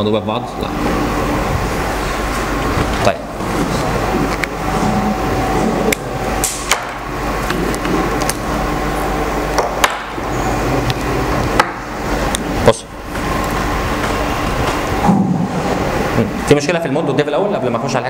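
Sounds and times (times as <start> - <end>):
sound system hum: 0.0 - 18.0.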